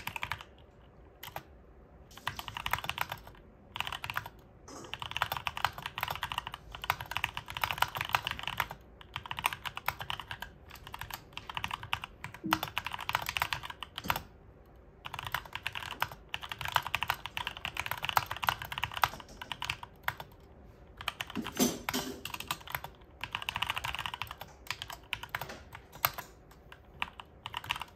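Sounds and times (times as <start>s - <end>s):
mechanical keyboard typing: 0.0s - 1.5s, 2.1s - 27.9s.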